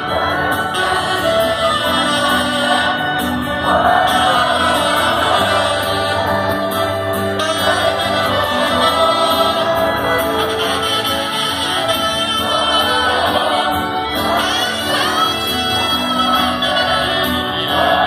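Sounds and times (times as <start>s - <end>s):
folk-rock band playing: 0.0s - 18.0s
voices singing together: 0.0s - 18.0s.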